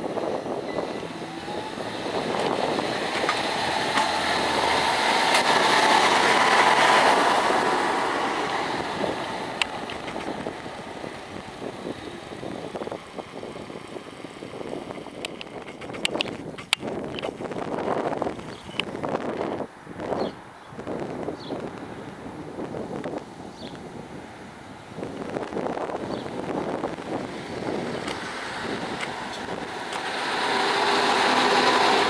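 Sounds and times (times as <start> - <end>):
tractor diesel engine passing: 0.0 - 18.3, 24.2 - 32.0.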